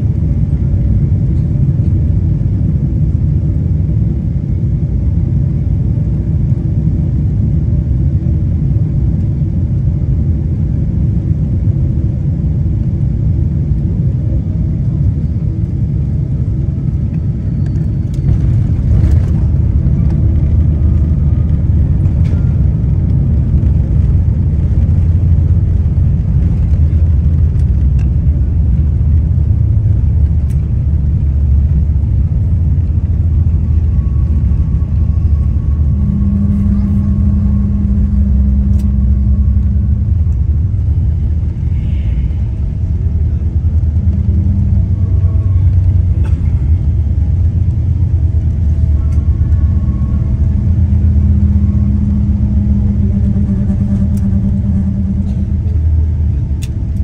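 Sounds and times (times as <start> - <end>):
jet engine and airflow rumble: 0.0 - 57.0.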